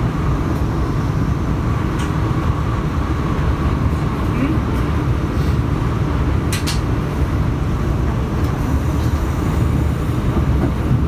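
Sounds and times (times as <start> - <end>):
train rumbling along rails: 0.0 - 11.0.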